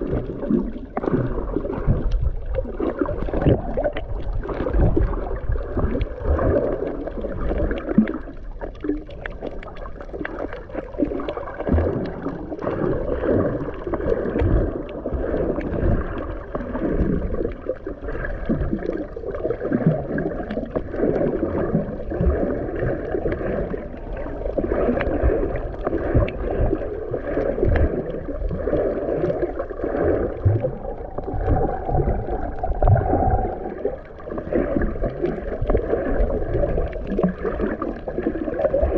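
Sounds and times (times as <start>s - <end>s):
low bumps and sloshes: 0.0s - 38.9s
muffled underwater gurgling: 0.0s - 38.9s.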